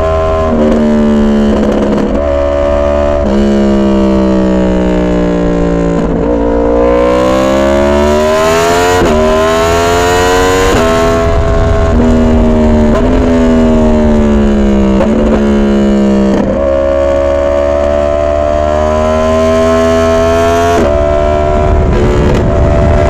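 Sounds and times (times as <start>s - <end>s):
motorcycle engine revving and shifting: 0.0s - 23.0s.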